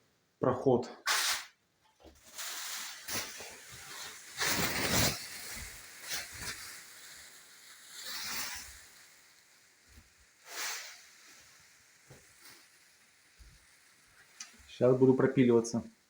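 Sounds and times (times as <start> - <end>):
plastic curtain rustling and crinkling: 1.1 - 15.6.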